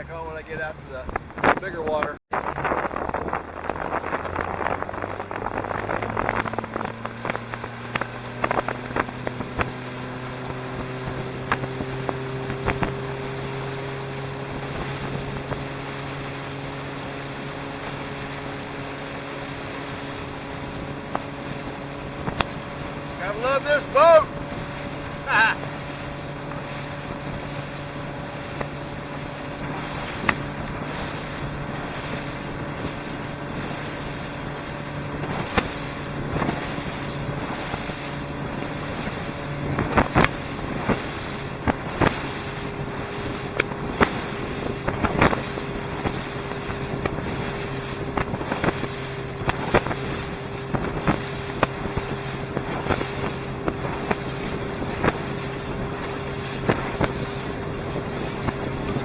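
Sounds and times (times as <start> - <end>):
hull slapping choppy water: 0.0 - 59.0.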